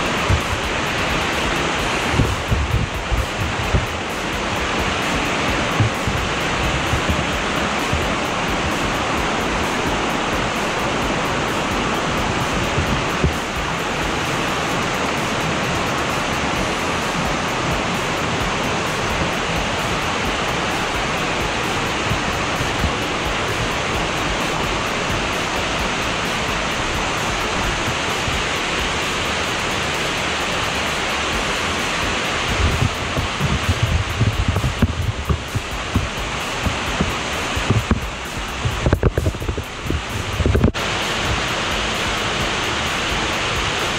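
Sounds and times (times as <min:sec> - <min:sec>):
waterfall over rocks: 0:00.0 - 0:43.9.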